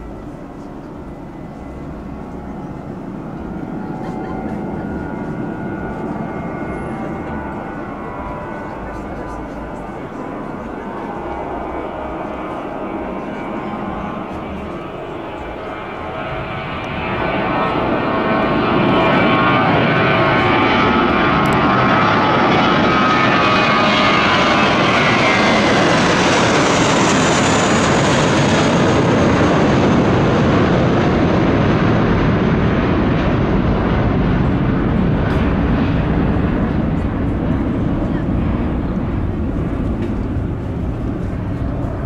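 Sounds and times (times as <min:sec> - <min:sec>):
jet airliner taking off overhead: 0:00.0 - 0:42.0
whining jet engine tones: 0:00.0 - 0:42.0.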